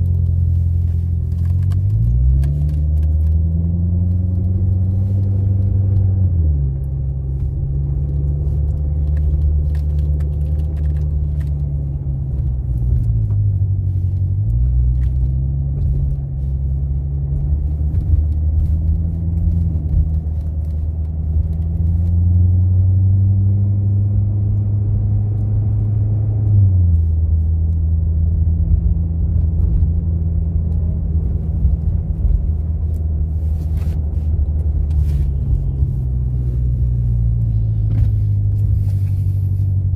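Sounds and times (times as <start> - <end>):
road rumble: 0.0 - 39.9
sports car engine running: 0.0 - 39.9.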